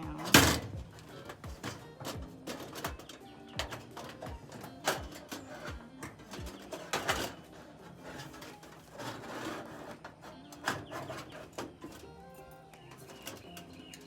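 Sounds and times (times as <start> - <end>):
metal panels and latches clanking: 0.0 - 14.0.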